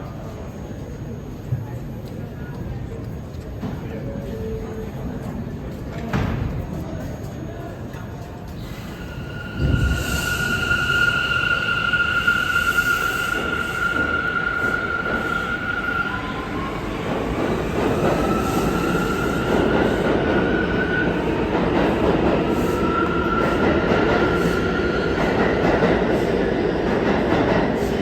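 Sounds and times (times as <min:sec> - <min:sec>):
subway train wheels rumbling on rail: 0:00.0 - 0:28.0.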